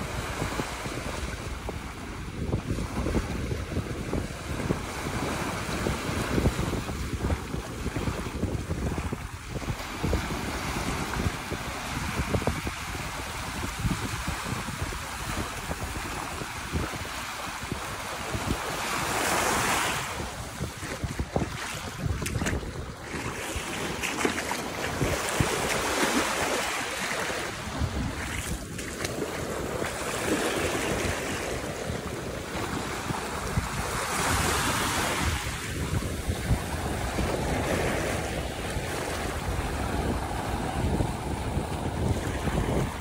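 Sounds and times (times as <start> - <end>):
small waves washing on sandy beach: 0.0 - 43.0
wind rumbling on microphone: 0.0 - 43.0.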